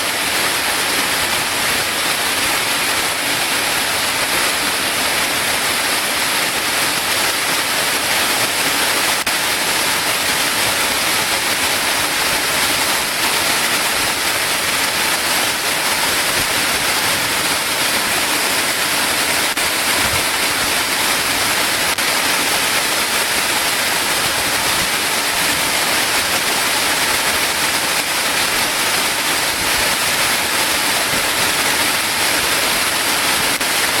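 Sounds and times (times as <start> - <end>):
waterfall pouring: 0.0 - 34.0.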